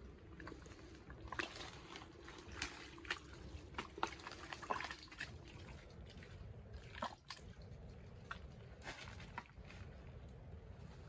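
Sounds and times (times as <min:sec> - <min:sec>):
hands squelching in wet mud: 0:00.1 - 0:10.4.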